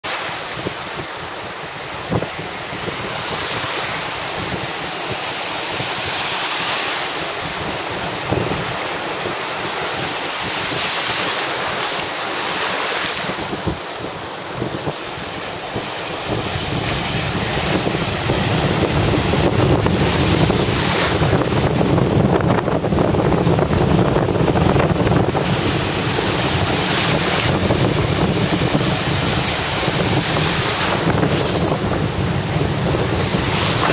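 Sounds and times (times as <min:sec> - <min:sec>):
small waves breaking: 0:00.1 - 0:22.6, 0:24.4 - 0:33.9
wind buffeting microphone: 0:00.1 - 0:33.9.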